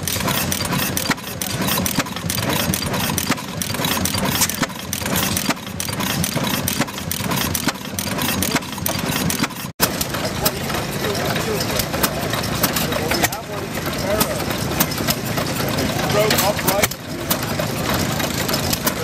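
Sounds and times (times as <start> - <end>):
gas engine chugging: 0.0 - 19.0.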